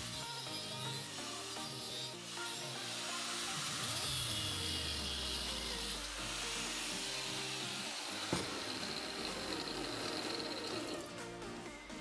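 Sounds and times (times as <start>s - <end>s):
angle grinder winding down: 0.0s - 11.2s.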